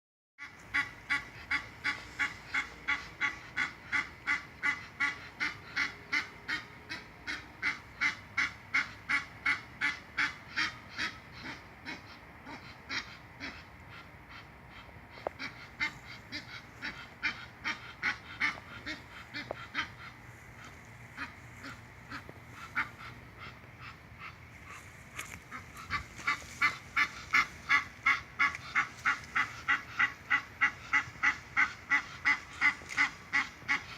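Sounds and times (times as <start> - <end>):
goose honking: 0.4 - 33.9.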